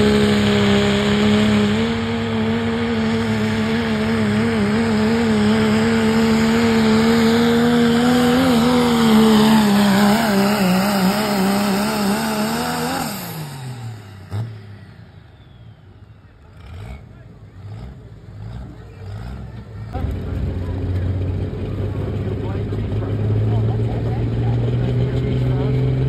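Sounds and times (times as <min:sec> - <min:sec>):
pickup truck engine revving under load: 0:00.0 - 0:26.0.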